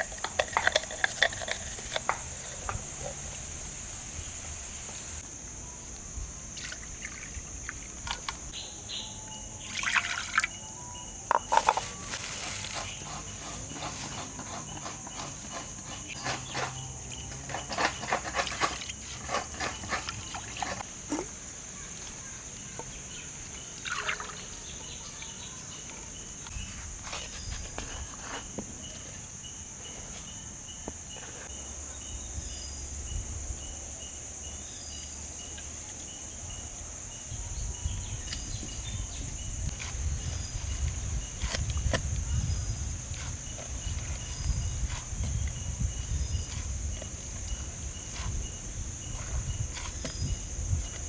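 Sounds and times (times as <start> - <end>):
high insect drone: 0.0 - 51.0.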